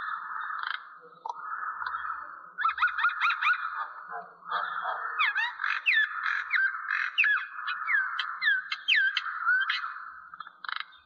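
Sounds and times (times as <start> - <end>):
background bird chorus: 0.0 - 11.0.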